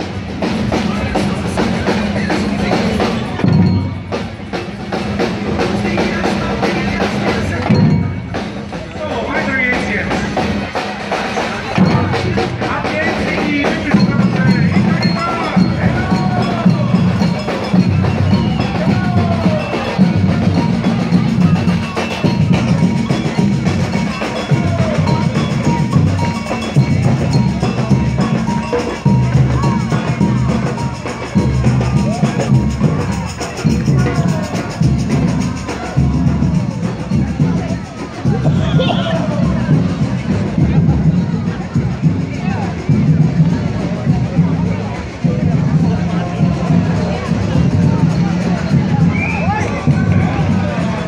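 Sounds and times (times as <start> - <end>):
marching drums playing: 0.0 - 51.0.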